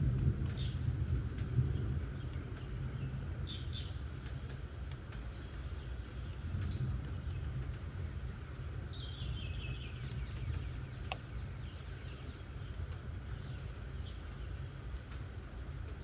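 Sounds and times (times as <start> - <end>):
deep constant rumble: 0.0 - 16.0
rain hiss: 0.0 - 16.0.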